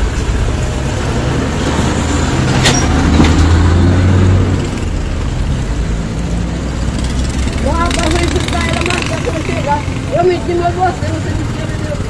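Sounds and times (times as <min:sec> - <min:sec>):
car passing: 0:00.0 - 0:12.0
truck diesel engine passing: 0:00.0 - 0:12.0.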